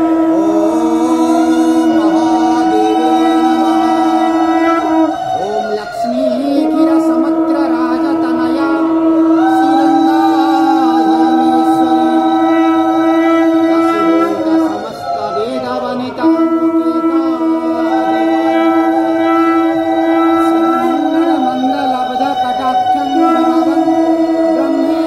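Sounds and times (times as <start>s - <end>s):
horn-like drone note: 0.0s - 25.0s
wavering melody: 0.0s - 25.0s.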